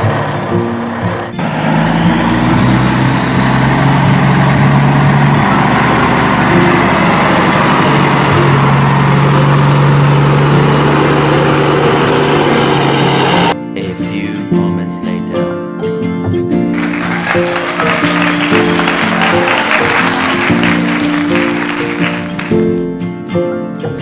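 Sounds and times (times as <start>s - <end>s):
truck engine running: 0.0s - 13.6s, 16.8s - 22.8s.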